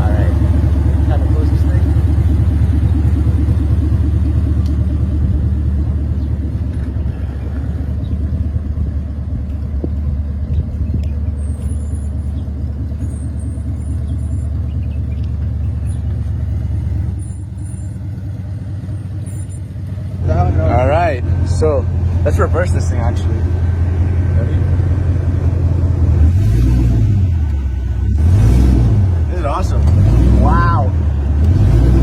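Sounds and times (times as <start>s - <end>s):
supercharged car engine rumbling: 0.0s - 32.0s.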